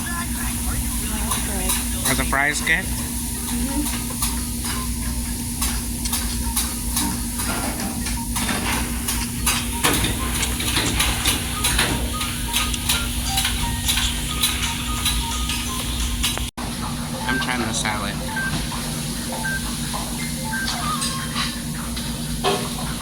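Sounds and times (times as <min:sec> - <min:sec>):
steady hiss and low hum: 0:00.0 - 0:23.0.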